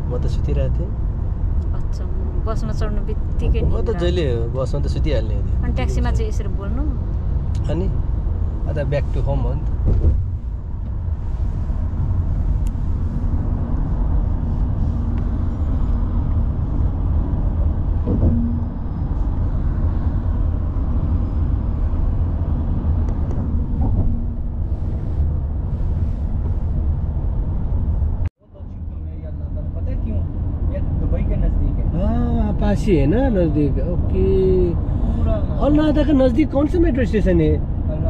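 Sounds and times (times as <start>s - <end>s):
road and engine rumble: 0.0s - 38.0s.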